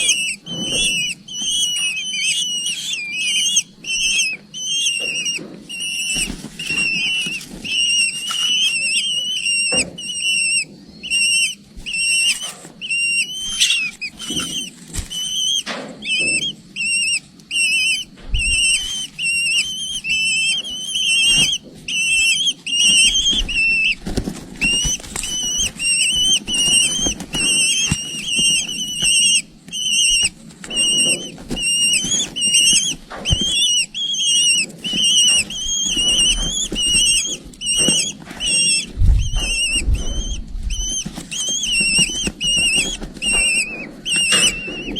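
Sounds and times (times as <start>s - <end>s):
eagle chicks begging calls: 0.0s - 44.9s.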